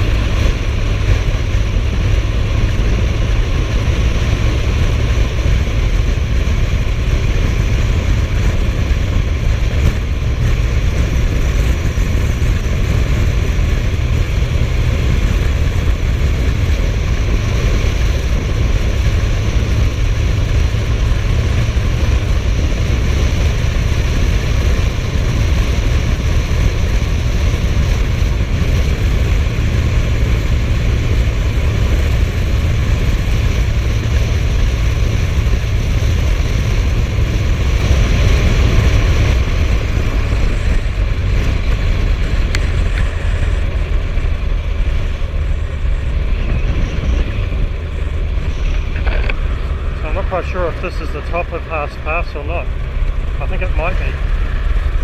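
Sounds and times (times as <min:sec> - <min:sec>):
motorcycle engine cruising: 0:00.0 - 0:55.0
rushing wind noise: 0:00.0 - 0:55.0.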